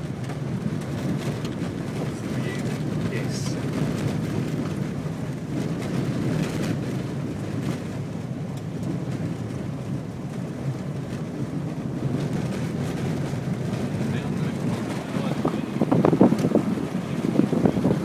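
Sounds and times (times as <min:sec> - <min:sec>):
tyres on dirt road: 0:00.0 - 0:18.0
vehicle engine rumbling: 0:00.0 - 0:18.0.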